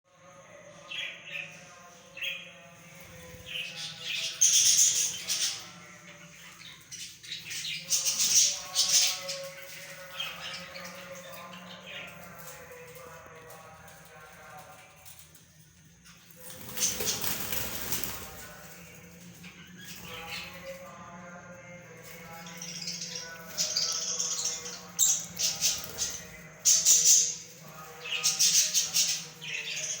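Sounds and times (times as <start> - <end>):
cage birds chirping and squawking: 0.2 - 30.0.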